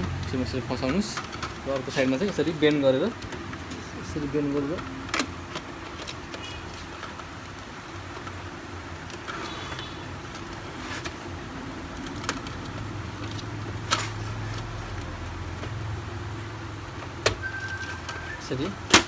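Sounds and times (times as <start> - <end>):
plastic clicks and handling: 0.0 - 19.0.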